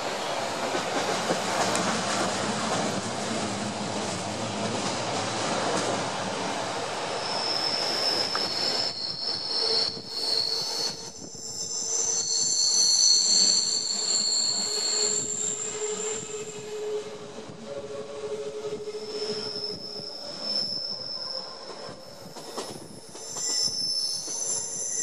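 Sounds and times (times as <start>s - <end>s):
train rolling rumble: 0.0s - 25.0s
train wheels squealing on rails: 0.0s - 25.0s.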